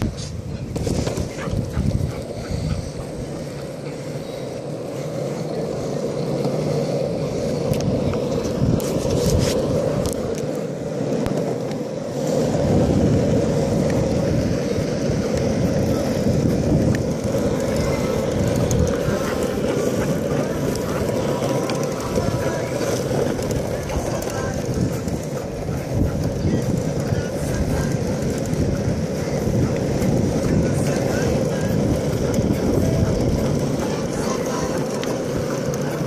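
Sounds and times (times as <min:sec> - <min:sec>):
skateboard wheels rolling on asphalt: 0:00.0 - 0:36.0.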